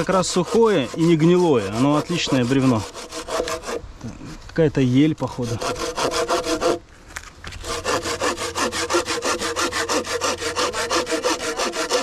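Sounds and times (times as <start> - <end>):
hand saw cutting log: 0.0 - 3.8, 5.2 - 6.8, 7.5 - 12.0.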